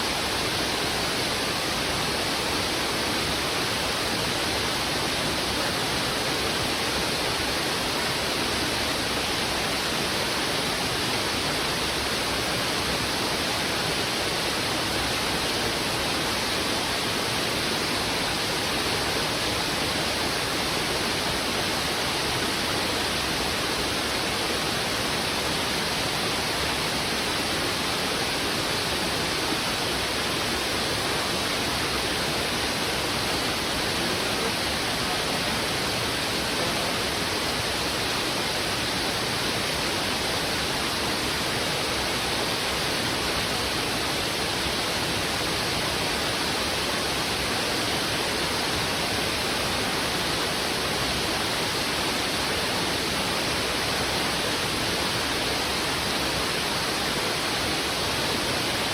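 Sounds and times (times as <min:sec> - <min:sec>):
river water rushing over rocks: 0:00.0 - 0:58.9.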